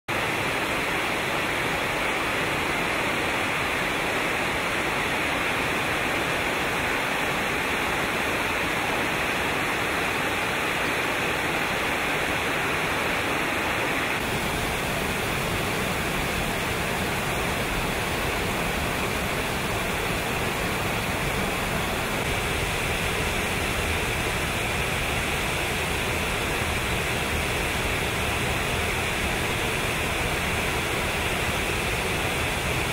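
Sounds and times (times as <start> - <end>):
water rushing over rocks: 0.1 - 32.9.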